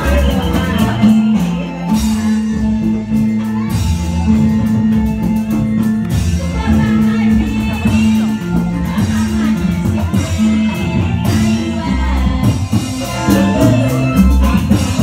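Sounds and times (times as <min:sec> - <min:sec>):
singing: 0:00.0 - 0:05.5, 0:06.2 - 0:15.0.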